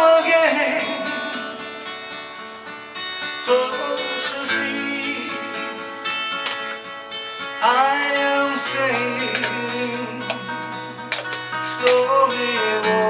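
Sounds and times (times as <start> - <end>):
slow acoustic guitar: 0.0 - 13.0.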